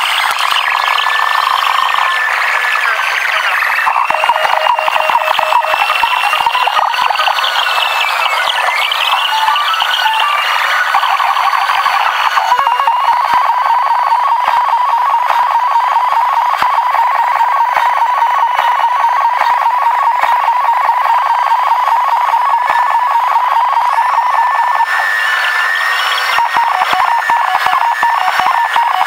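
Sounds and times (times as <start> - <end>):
pulsing electronic beep: 0.0 - 29.0
warbling tones: 0.0 - 29.0.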